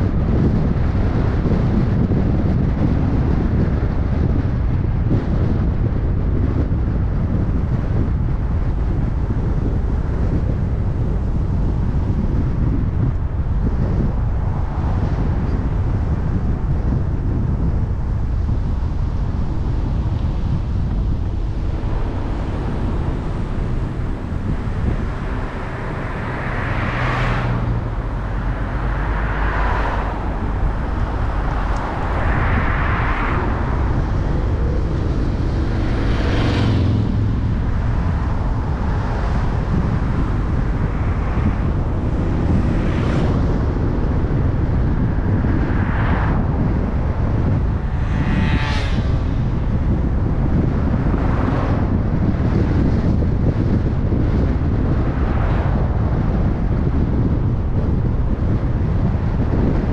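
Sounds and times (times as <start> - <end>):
passing vehicles swooshing: 0.0 - 59.9
wind rumble on microphone: 0.0 - 59.9.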